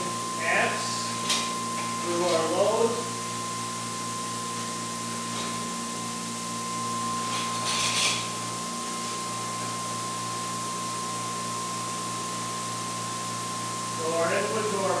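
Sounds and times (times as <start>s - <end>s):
generator rig whine and hum: 0.0s - 15.0s.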